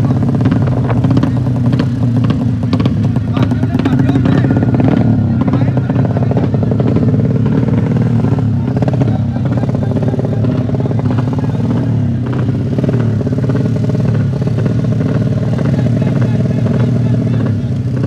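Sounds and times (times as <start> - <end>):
motorcycle engines running: 0.0 - 18.0.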